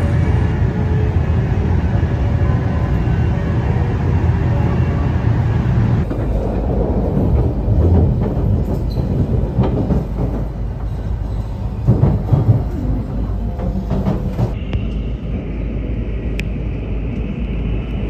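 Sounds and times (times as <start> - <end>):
train cabin low rumble: 0.0 - 18.0.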